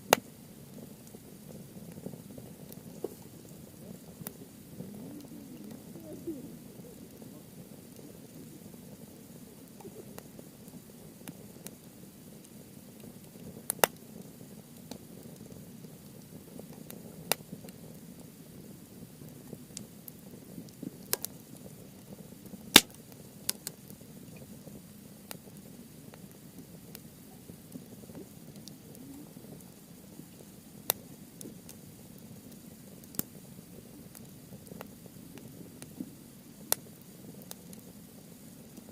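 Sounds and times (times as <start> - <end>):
campfire flames rushing: 0.0 - 38.9
wood fire crackling and popping: 0.0 - 38.9.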